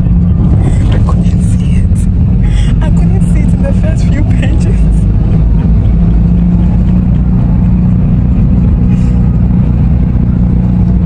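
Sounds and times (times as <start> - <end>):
car engine hum: 0.0 - 11.0
road noise: 0.0 - 11.0.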